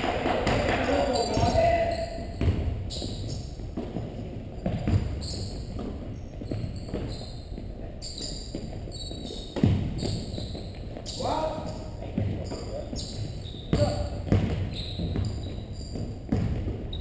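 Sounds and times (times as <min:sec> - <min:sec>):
basketball bouncing on hardwood floor: 0:00.2 - 0:01.6, 0:02.3 - 0:11.1, 0:11.7 - 0:17.0.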